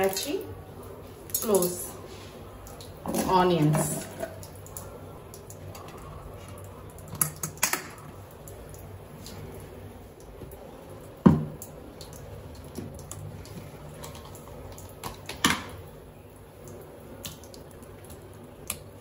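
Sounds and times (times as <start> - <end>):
low steady hum: 0.0 - 19.0
wet drips: 0.0 - 19.0.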